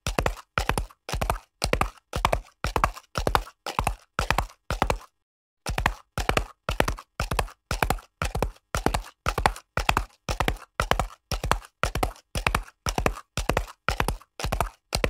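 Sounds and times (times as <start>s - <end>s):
horse hooves clip-clopping: 0.0s - 5.1s, 5.7s - 15.0s.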